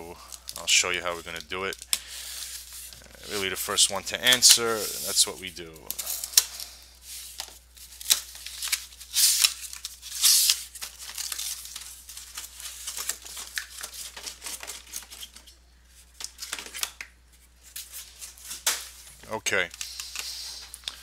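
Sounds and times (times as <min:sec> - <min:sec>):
boxes and packaging rustling: 0:00.0 - 0:21.0.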